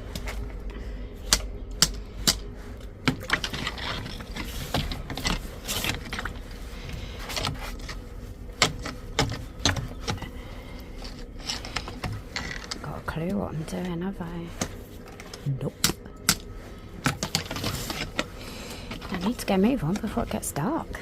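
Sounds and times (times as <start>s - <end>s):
drain rods clacking: 1.3s - 20.8s
drain rods scraping: 1.3s - 21.0s.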